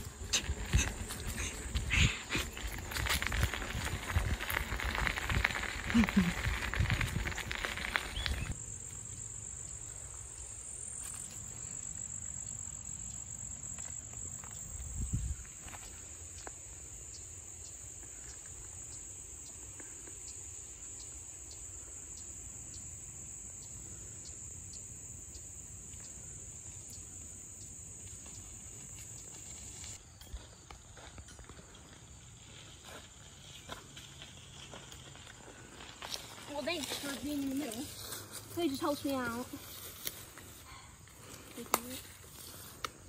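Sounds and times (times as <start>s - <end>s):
insect chorus: 0.0s - 43.0s.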